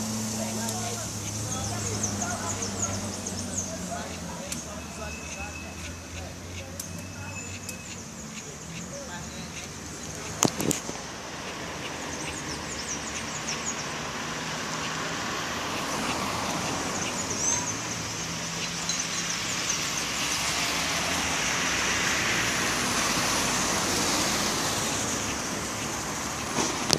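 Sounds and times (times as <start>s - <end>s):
wren calls: 0.0s - 26.6s
road traffic passing: 0.0s - 26.9s.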